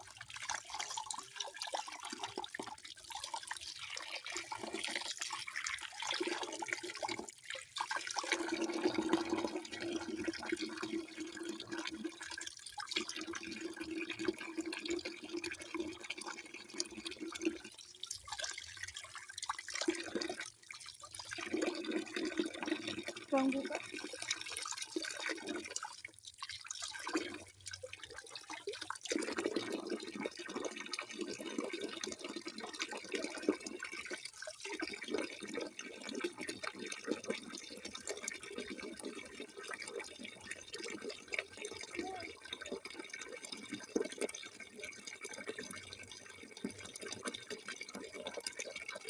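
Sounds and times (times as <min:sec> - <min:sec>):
running water splashing and trickling: 0:00.0 - 0:49.0.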